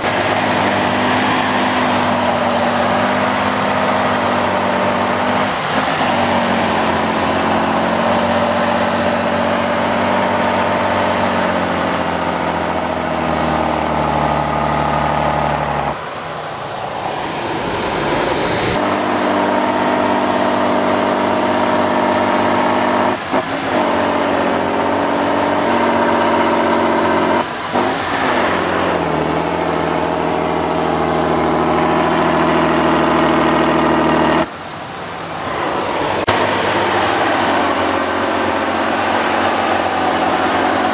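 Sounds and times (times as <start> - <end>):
diesel truck engine revving hard: 0.0 - 16.3, 17.5 - 34.5, 35.4 - 40.9.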